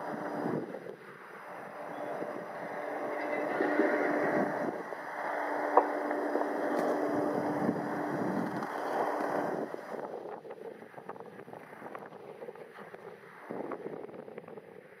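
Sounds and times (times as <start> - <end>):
distant propeller plane engine drone: 0.0 - 15.0.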